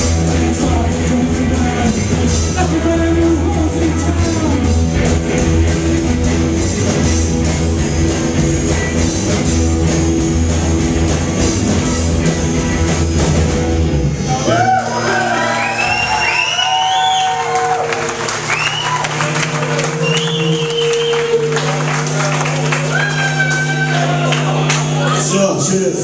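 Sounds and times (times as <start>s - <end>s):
live rock band playing: 0.0s - 25.3s.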